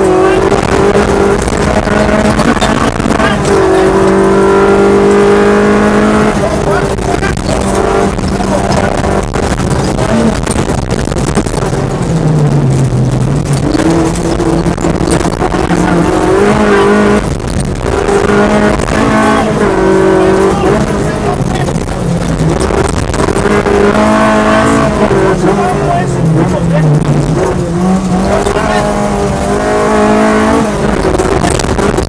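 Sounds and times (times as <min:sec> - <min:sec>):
car engine revving in cabin: 0:00.0 - 0:32.0
gravel clicks: 0:06.3 - 0:32.0.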